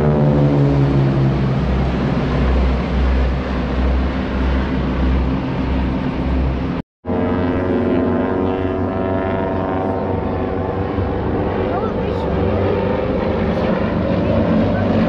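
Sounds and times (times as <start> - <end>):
low rumbling noise: 0.0 - 15.0
propeller airplanes droning: 0.0 - 15.0.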